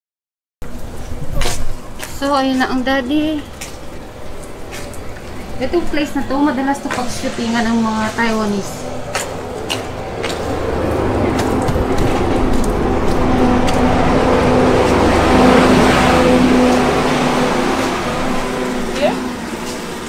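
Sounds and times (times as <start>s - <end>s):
vehicle engine passing by: 2.8s - 20.0s.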